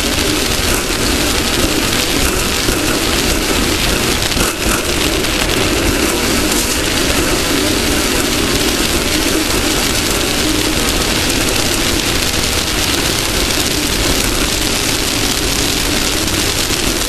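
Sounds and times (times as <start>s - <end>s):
wind and dirt rushing: 0.0s - 17.0s.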